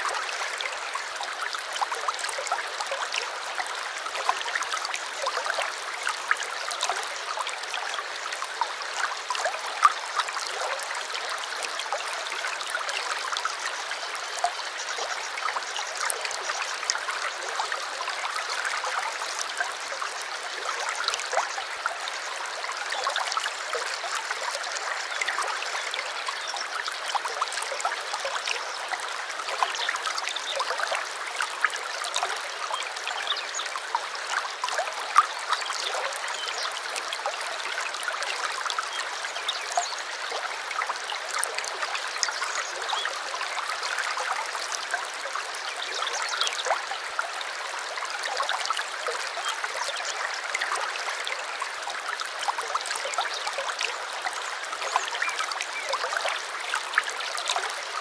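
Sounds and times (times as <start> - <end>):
small water splashes and drips: 0.0 - 58.0
stream babbling over stones: 0.0 - 58.0.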